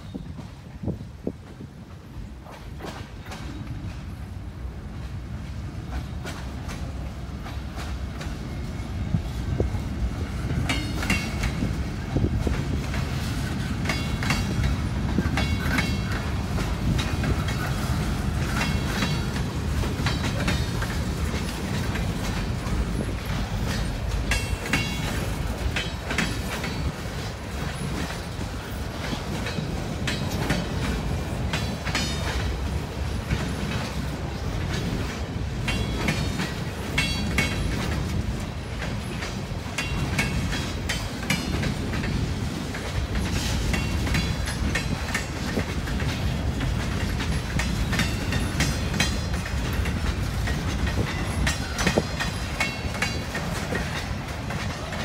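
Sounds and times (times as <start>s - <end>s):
freight train rumbling past: 0.0s - 55.0s
wheels clicking over rail joints: 0.4s - 55.0s.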